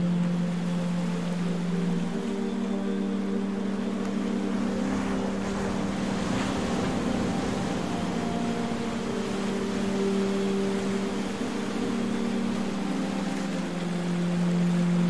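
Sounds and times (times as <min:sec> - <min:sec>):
droning background music: 0:00.0 - 0:15.0.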